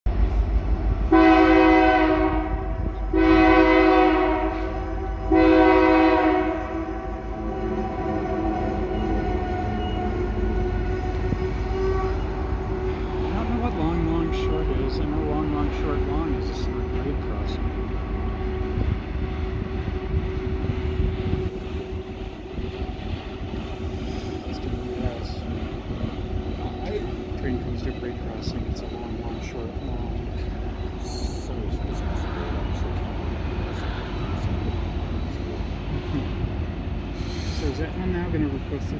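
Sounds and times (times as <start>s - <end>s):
train rumbling past: 0.0s - 38.9s
locomotive horn blasts: 1.1s - 32.7s.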